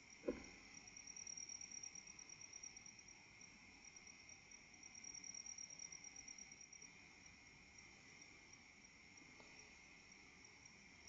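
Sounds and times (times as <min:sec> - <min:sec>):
high-pitched insect trill: 0:00.0 - 0:11.0
lower insect trill: 0:00.0 - 0:11.0.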